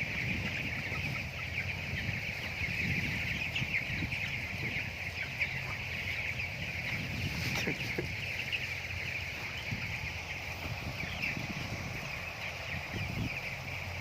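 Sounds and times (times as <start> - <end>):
chickens peeping: 0.0 - 14.0.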